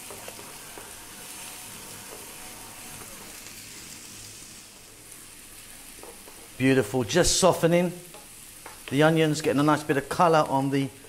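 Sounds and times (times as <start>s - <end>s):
onion sizzling in frying pan: 0.0s - 11.0s.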